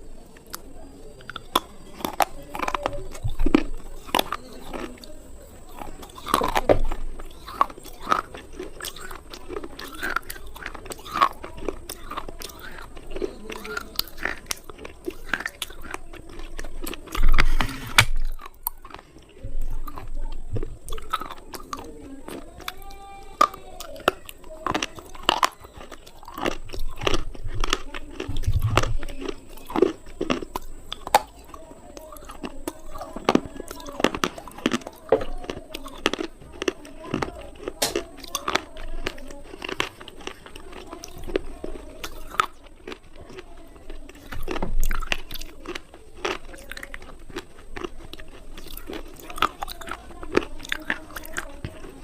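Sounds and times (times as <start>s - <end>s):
slate pencils being chewed: 0.0s - 52.0s.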